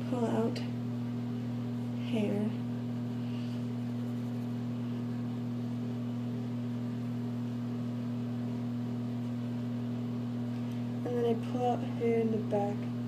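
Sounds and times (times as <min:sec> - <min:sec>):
low two-tone hum: 0:00.0 - 0:13.0.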